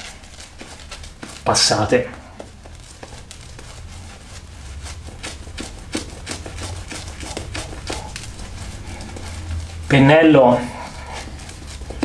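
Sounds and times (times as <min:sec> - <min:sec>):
shaving brush lathering cream: 0:00.0 - 0:12.0.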